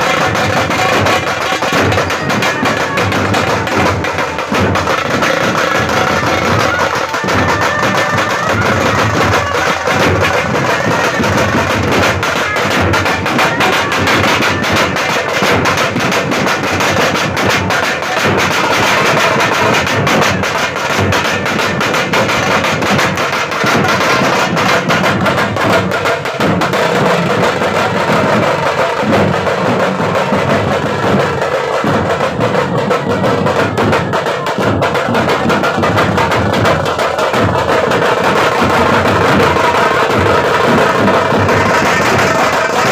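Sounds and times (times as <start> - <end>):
snare and bass drums: 0.0 - 42.9.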